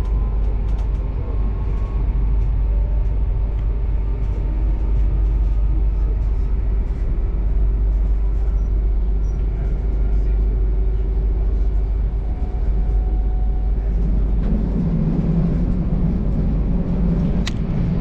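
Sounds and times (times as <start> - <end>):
constant hum: 0.0 - 18.0
deep rumble: 0.0 - 18.0
train rumbling on track: 0.0 - 18.0.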